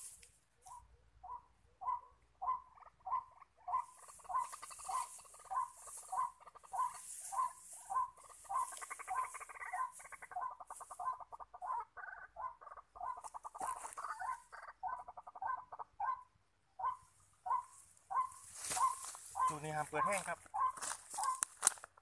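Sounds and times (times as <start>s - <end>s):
waterhen croaking calls: 0.7s - 21.4s.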